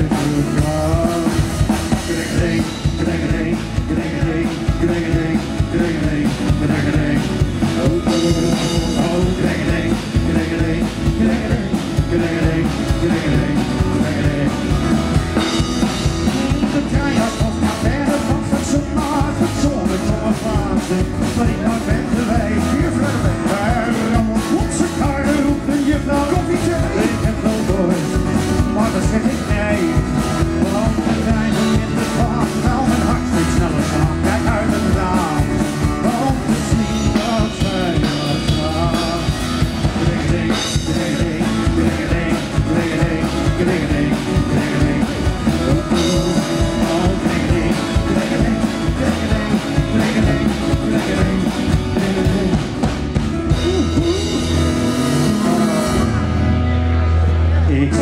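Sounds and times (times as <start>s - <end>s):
drum kit beat: 0.0s - 56.7s
acoustic guitar: 0.0s - 58.0s
electric guitar: 0.0s - 58.0s.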